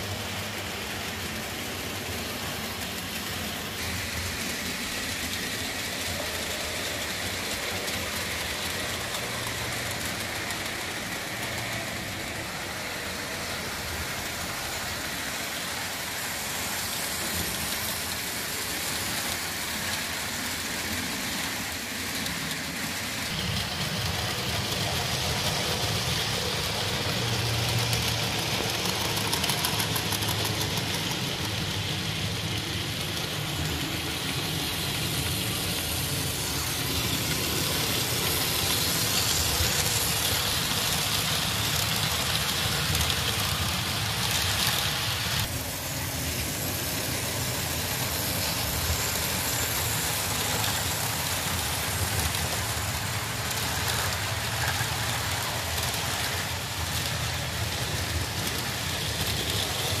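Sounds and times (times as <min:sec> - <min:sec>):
model trains whirring: 0:00.0 - 1:00.0.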